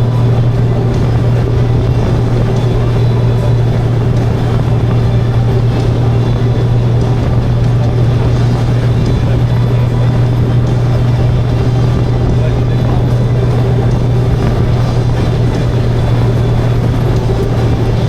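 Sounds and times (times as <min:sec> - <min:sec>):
motorcycle engine drone: 0:00.0 - 0:18.0
wind and road noise: 0:00.0 - 0:18.0.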